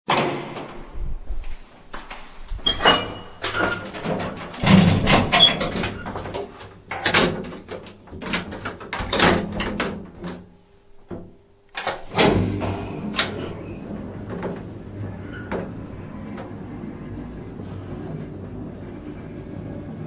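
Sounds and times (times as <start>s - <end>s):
elevator knocks and rattles: 2.6s - 10.5s, 11.1s - 20.0s.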